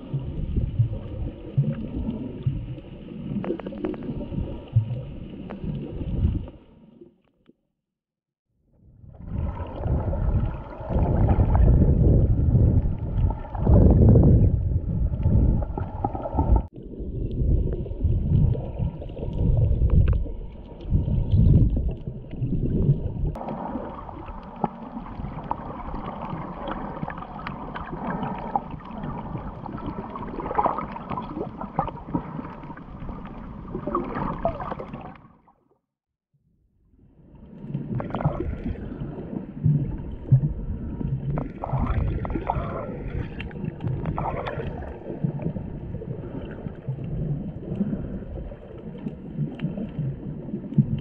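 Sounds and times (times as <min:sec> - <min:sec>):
underwater sloshing and gurgling: 0:00.0 - 0:07.7, 0:08.6 - 0:51.0.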